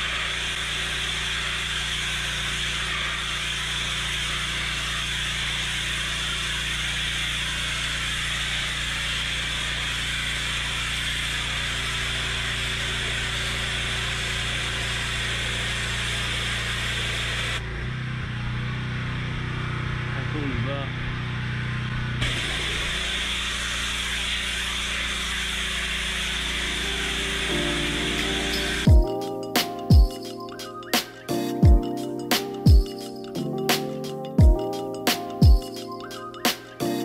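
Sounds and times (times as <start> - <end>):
pressure washer spray hissing on stone: 0.0 - 17.6, 22.2 - 37.0
machine humming: 0.0 - 37.0.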